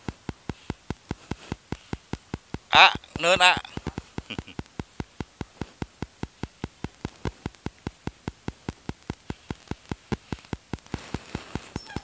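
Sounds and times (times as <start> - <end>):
rapid ticking clicks: 0.0 - 11.9.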